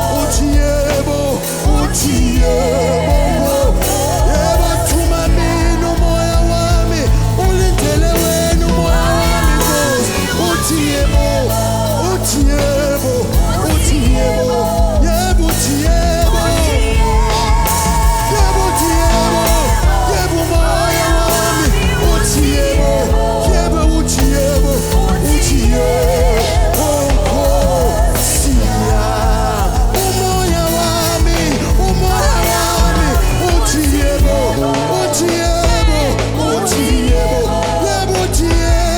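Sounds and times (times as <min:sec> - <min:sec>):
worship band playing: 0:00.0 - 0:38.9.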